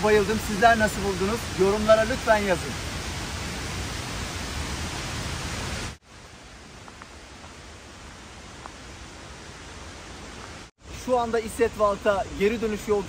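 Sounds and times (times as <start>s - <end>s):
outdoor hiss: 0.0s - 13.0s
waterfall rushing: 0.0s - 13.0s.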